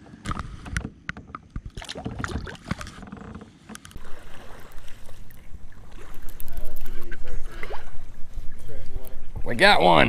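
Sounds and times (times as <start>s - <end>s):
water against hull: 0.0s - 10.0s.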